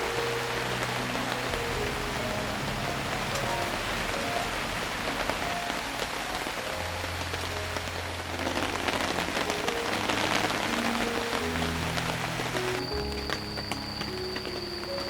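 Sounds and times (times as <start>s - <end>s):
rain pattering: 0.0s - 15.0s
soft background music: 0.0s - 15.0s.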